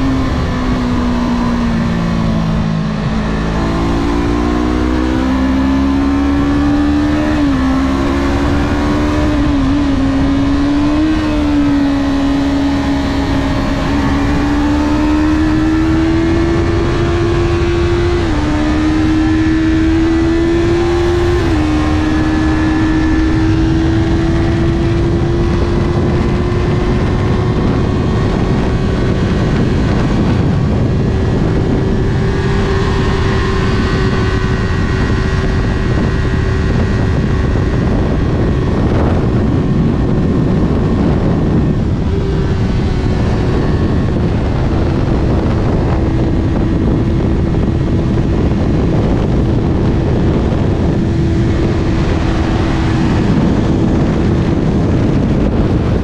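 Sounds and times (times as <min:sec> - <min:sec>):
motorcycle engine accelerating: 0:00.0 - 0:56.0
wind noise on microphone: 0:00.0 - 0:56.0.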